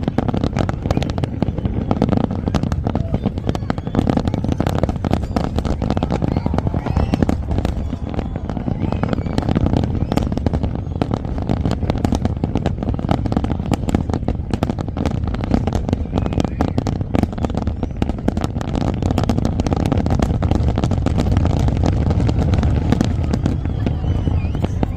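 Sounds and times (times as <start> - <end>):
fireworks crackling: 0.0 - 24.9
low booming firework shells: 0.0 - 24.9.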